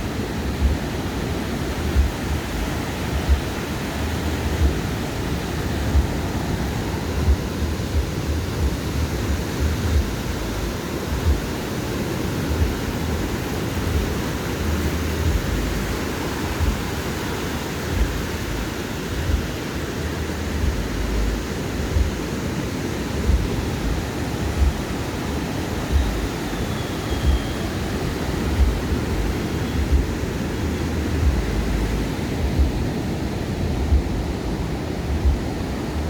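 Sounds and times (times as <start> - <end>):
waves washing onto beach: 0.0 - 36.0.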